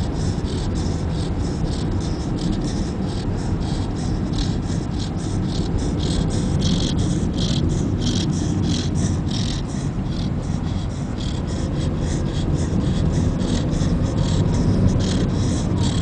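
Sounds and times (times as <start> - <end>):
car rumbling on road: 0.0 - 16.0
dog snoring: 0.0 - 16.0.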